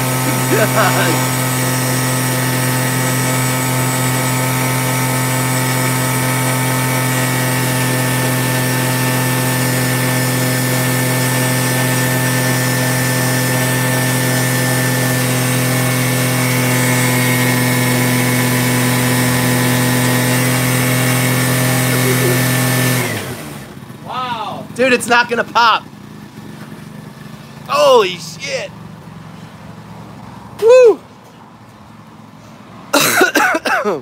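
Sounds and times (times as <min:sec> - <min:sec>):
scooter engine revving high: 0:00.0 - 0:30.0.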